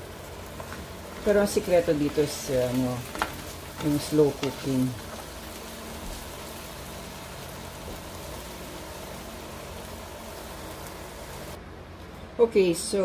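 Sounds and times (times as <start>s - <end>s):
potatoes sizzling in hot oil: 0.0s - 11.6s.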